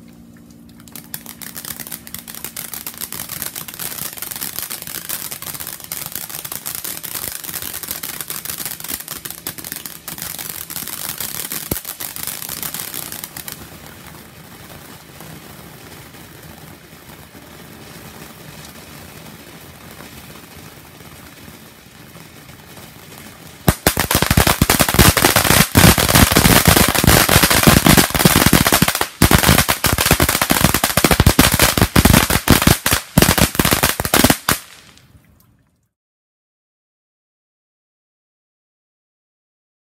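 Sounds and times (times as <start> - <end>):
firework crackling: 0.8 - 35.2
firework fountain hissing: 0.9 - 35.0.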